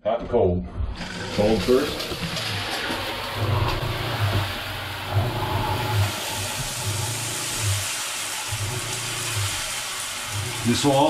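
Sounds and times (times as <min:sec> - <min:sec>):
shower water splashing: 0:00.8 - 0:11.0
water pump humming: 0:00.8 - 0:11.0.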